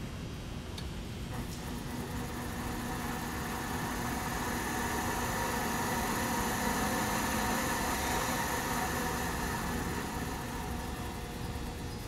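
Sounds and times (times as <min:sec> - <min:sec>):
electric motor humming with whine: 0:01.4 - 0:12.0.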